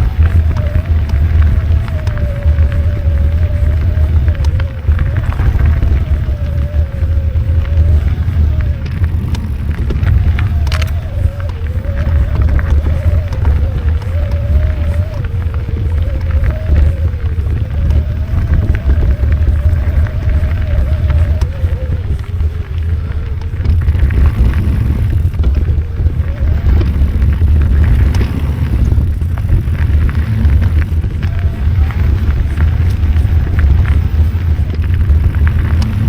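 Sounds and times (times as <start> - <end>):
bicycle tyre noise: 0.0 - 36.0
bike rattling clicks: 0.0 - 36.0
wavering whine: 0.0 - 36.0
wind buffeting microphone: 0.0 - 36.0.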